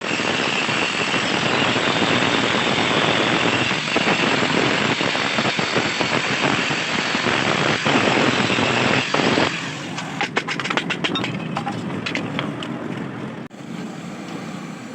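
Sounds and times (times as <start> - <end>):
angle grinder grinding metal: 0.0 - 12.4.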